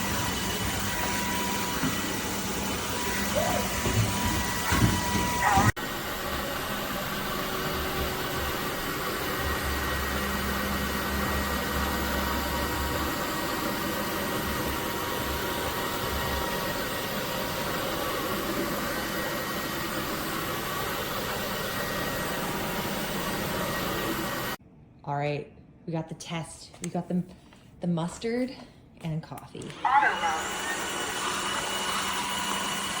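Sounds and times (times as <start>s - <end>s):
vacuum mop motor whir: 0.0s - 24.6s, 29.8s - 33.0s.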